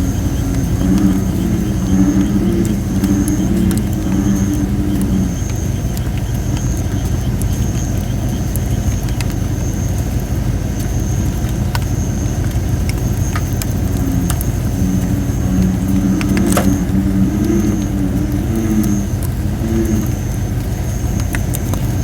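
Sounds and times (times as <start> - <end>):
campfire hissing and crackling: 0.0 - 22.0
low croaking frog calls: 0.0 - 22.0
steady low rumble: 0.0 - 22.0.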